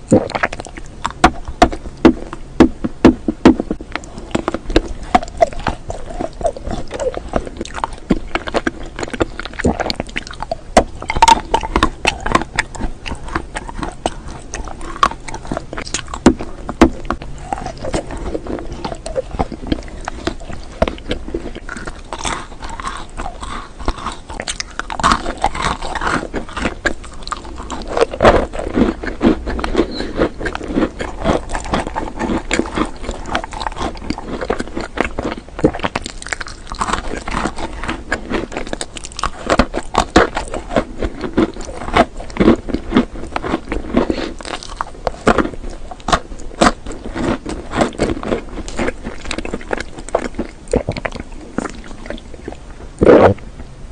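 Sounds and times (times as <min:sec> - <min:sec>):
chewing with mouth clicks: 0:00.0 - 0:53.4.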